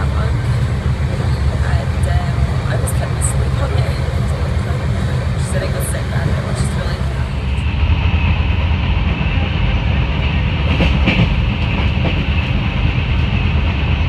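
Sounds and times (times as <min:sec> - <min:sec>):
train rumbling with hiss: 0:00.0 - 0:14.0.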